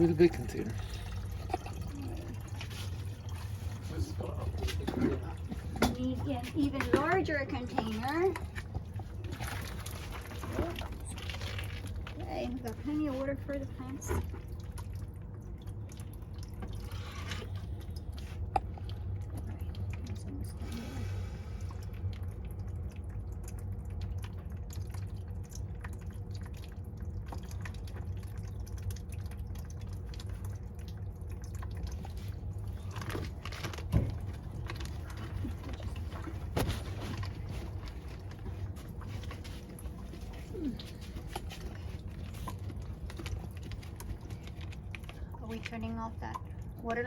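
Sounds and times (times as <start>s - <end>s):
water dripping and trickling: 0.0s - 47.0s.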